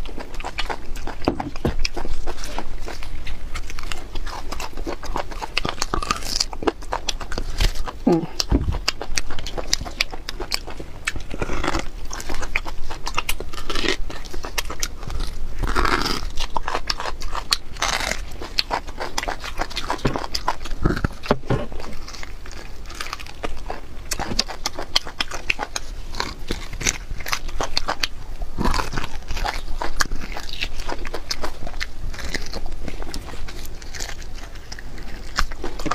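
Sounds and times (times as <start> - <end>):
chewing and biting: 0.0 - 35.9.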